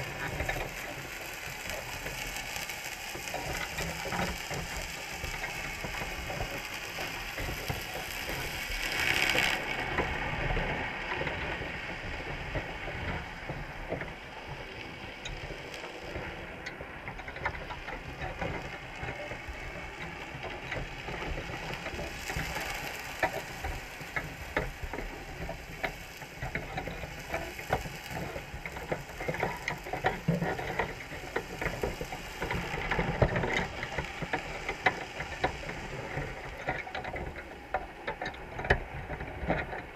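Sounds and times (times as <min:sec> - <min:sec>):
underwater clicking and crackling: 0:00.0 - 0:39.9
underwater rush: 0:00.0 - 0:39.9.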